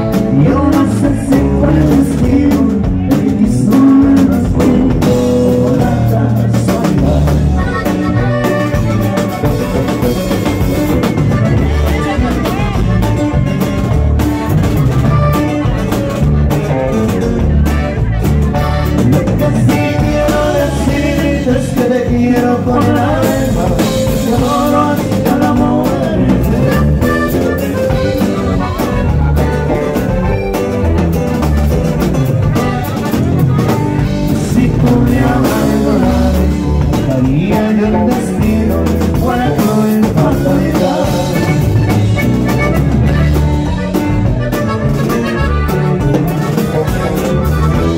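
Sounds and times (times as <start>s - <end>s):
button accordion lead: 0.0s - 47.9s
drum kit: 0.0s - 47.9s
electric bass: 0.0s - 47.9s
guitar: 0.0s - 47.9s.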